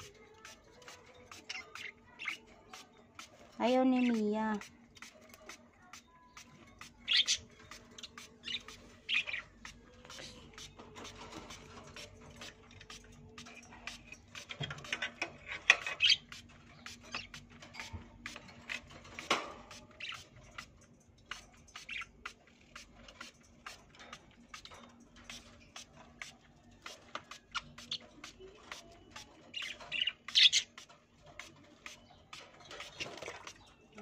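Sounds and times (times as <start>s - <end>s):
parakeets chirping and squawking: 0.0s - 34.0s.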